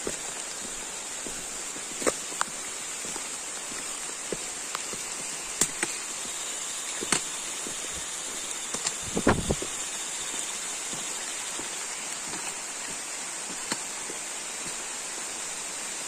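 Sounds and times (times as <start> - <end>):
footsteps on rocky trail: 0.0 - 14.9
steady rushing hiss: 0.0 - 16.0.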